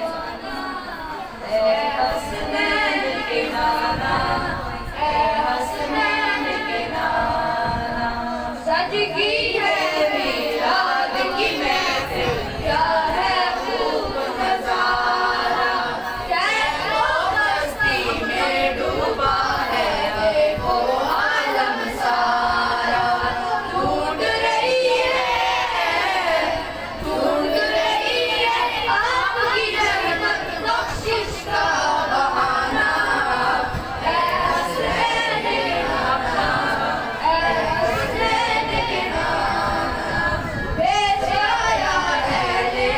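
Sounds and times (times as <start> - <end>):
boy singing into a microphone: 0.0 - 42.9.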